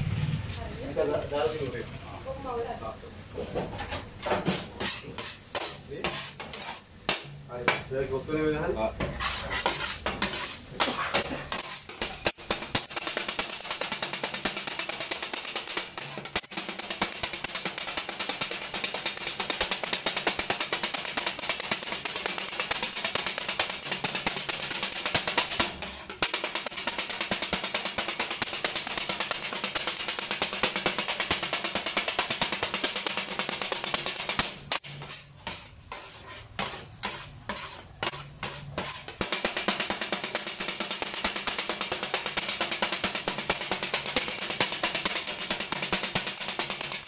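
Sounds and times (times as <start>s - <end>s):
frying sizzle: 0.0s - 47.0s
metal blades clanking on griddle: 9.0s - 47.0s.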